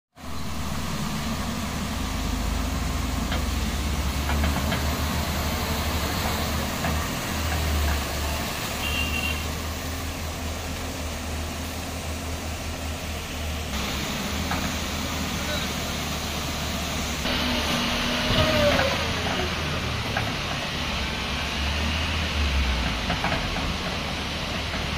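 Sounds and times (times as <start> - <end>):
dump truck pulling away: 0.2 - 24.9
excavator working: 0.2 - 24.9.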